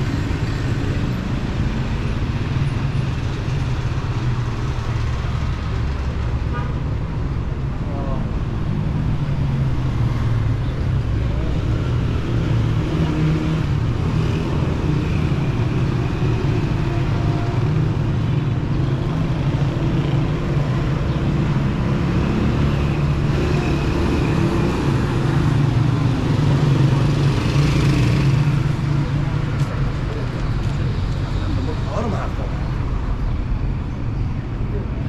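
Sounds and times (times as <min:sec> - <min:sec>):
street traffic passing: 0:00.0 - 0:35.0.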